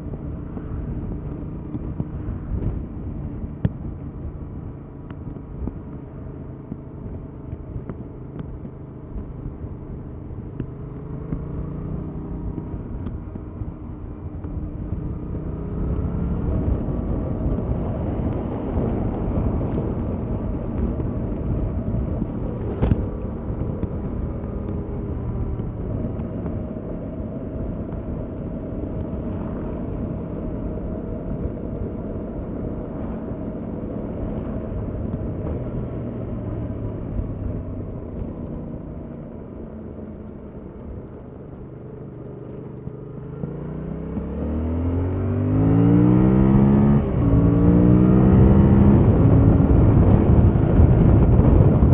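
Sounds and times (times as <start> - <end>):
motorcycle engine revving: 9.8 - 51.9.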